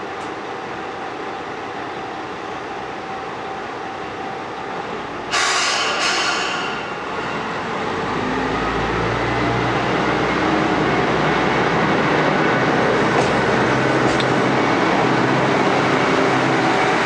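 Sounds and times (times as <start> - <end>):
diesel railcar engine revving: 0.0 - 17.0.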